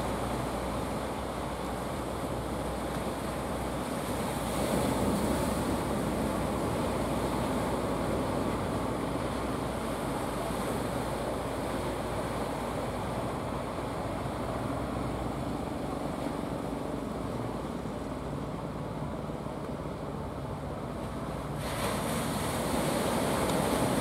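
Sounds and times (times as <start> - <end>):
boat engines running: 0.0 - 24.0
breaking waves: 0.0 - 24.0
wind: 0.0 - 24.0.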